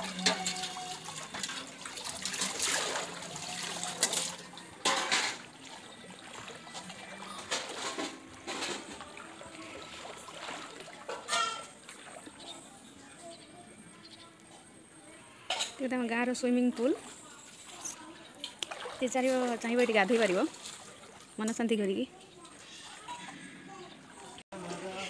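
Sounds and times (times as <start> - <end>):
water splashing and trickling: 0.0 - 13.6, 15.6 - 25.0.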